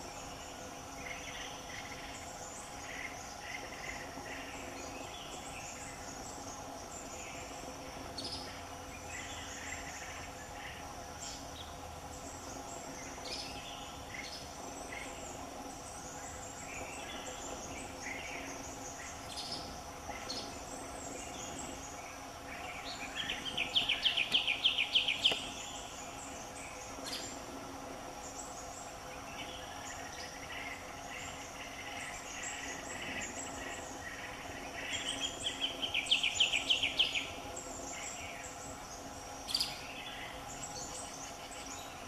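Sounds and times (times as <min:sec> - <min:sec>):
birds calling: 0:00.0 - 0:42.0
high insect drone: 0:00.0 - 0:42.0.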